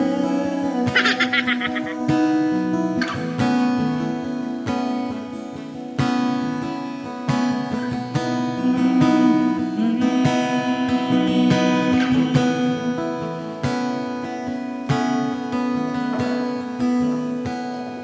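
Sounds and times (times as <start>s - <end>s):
guitar strumming chords: 0.0s - 18.0s.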